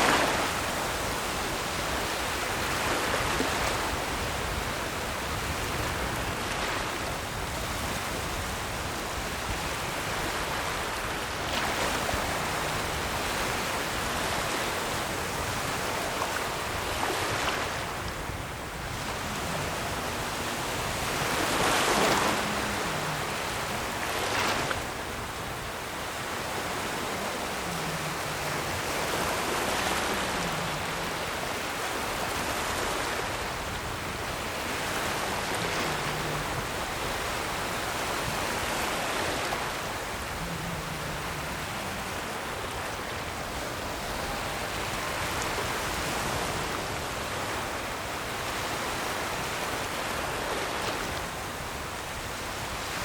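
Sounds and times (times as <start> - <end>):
ocean waves washing in: 0.0 - 53.0.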